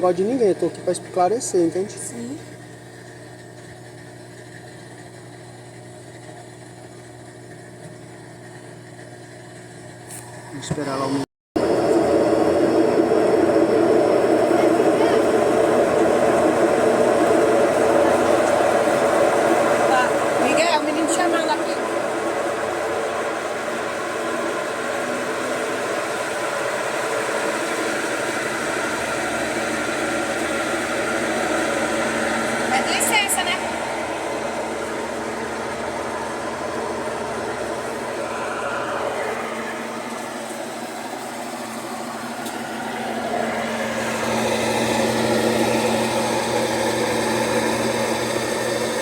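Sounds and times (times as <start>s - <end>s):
washing machine droning: 0.0s - 49.0s.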